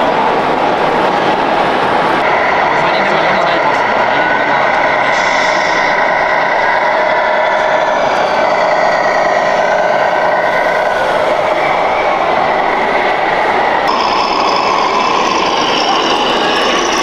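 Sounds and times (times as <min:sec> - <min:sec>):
electronic diesel engine sound: 0:02.0 - 0:17.0.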